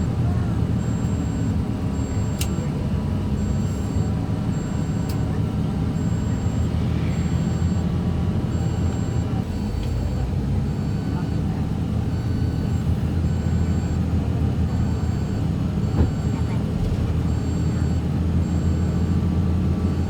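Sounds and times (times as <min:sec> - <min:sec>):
vehicle rumbling on the move: 0:00.0 - 0:20.0.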